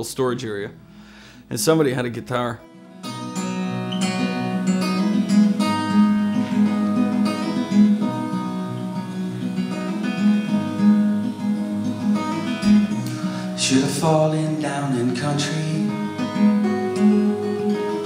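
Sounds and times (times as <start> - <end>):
acoustic guitar picked notes: 0.2 - 18.0.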